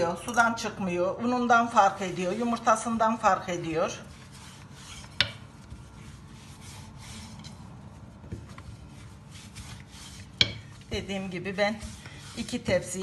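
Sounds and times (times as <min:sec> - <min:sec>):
rolling pin rubbing on dough: 0:01.3 - 0:13.0.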